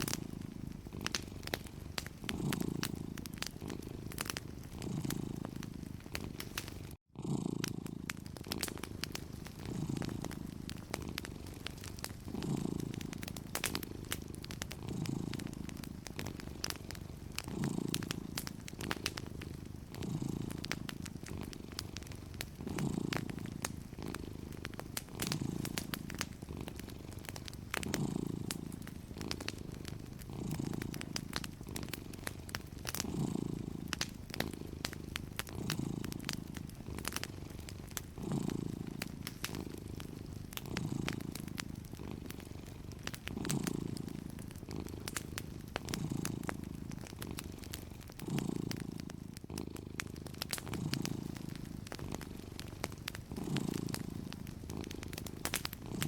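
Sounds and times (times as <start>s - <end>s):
cat purring: 0.0s - 56.0s
fire crackling and popping: 0.0s - 56.0s.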